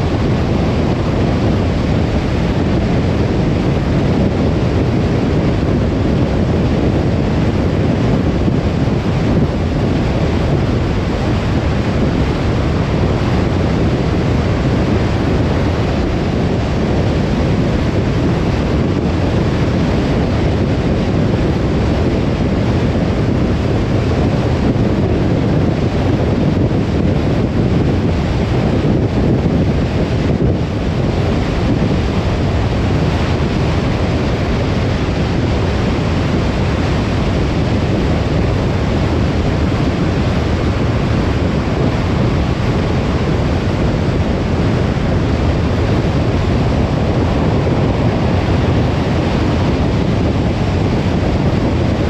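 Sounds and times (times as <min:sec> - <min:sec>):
car road noise rumble: 0:00.0 - 0:52.0.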